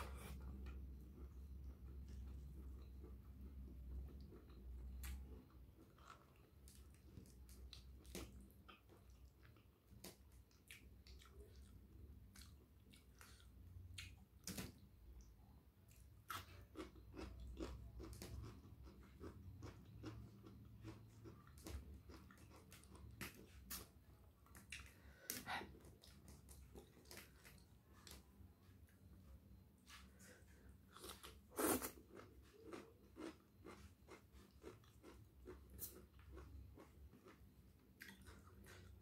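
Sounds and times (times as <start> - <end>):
chewing and mouth smacks: 0.1 - 28.4, 30.9 - 39.0.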